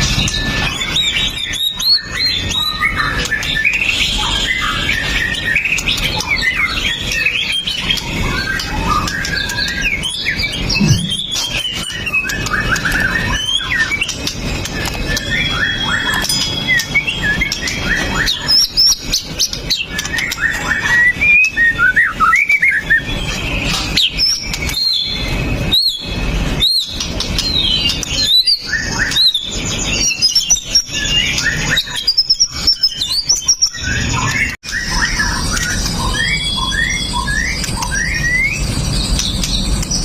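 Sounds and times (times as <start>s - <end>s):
bird singing whistles and chirps: 0.0s - 40.0s.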